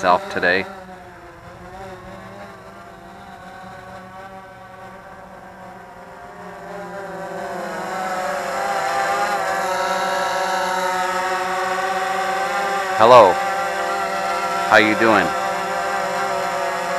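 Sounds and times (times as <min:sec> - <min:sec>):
drone propellers buzzing: 0:00.0 - 0:16.9.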